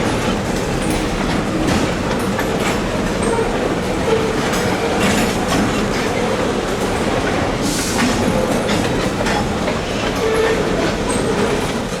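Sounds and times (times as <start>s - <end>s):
freight cars rolling on track: 0.0s - 12.0s.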